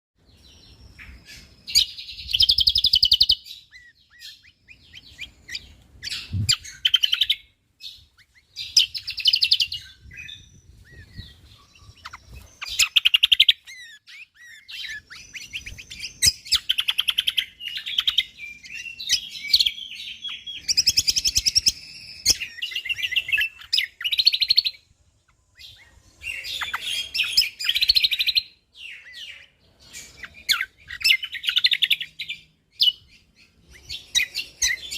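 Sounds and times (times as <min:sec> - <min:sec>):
songbird chattering trills: 0:00.3 - 0:34.9.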